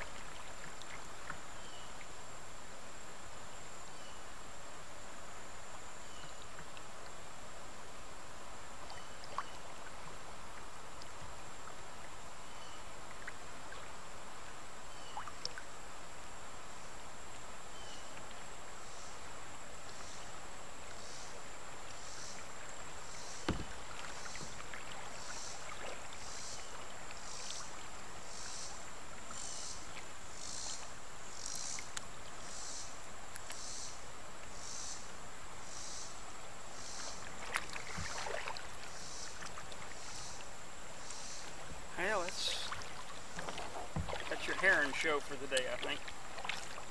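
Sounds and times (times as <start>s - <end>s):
high insect whine: 0.0s - 46.9s
river water rippling: 0.0s - 46.9s.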